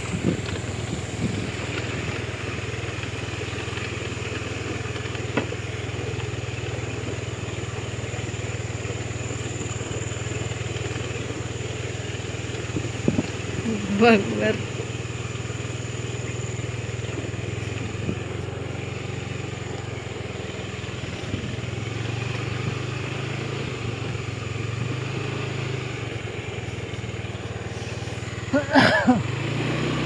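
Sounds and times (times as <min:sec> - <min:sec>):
small motorcycle engine running: 0:00.0 - 0:30.0.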